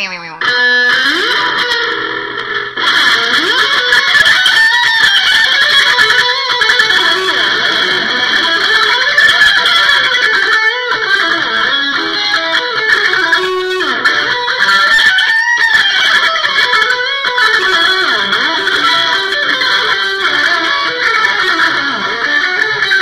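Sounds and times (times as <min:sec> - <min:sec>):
electric guitar lead line: 0:00.0 - 0:23.0.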